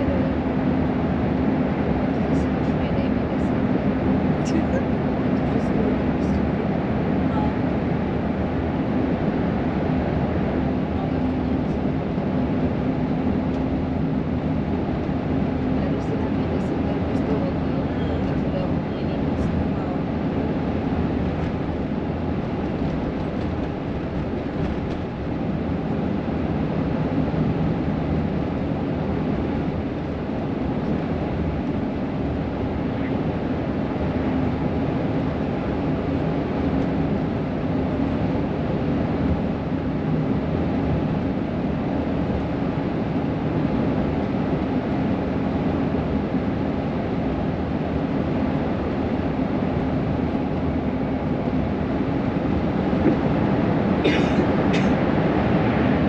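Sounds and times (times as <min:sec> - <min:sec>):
car road noise: 0:00.0 - 0:56.0.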